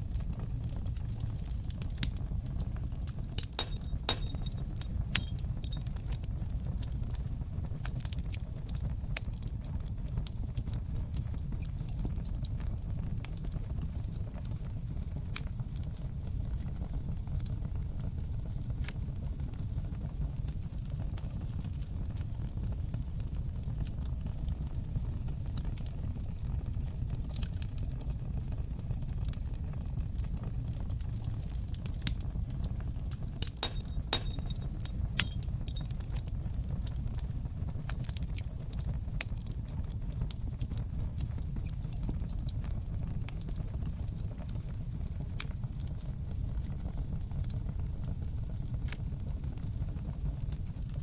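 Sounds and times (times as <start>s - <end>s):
fire crackling and popping: 0.0s - 51.0s
fire roaring: 0.0s - 51.0s.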